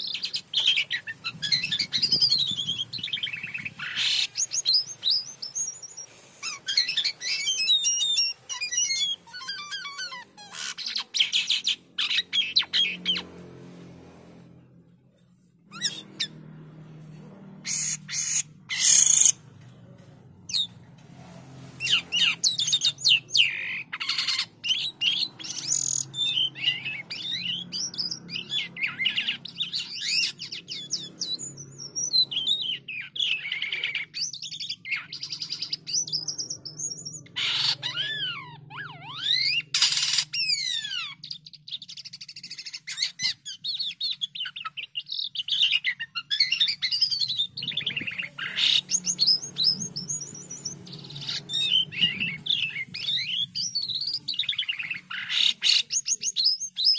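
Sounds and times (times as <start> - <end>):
starling singing whistles: 0.0 - 13.2, 21.8 - 56.9.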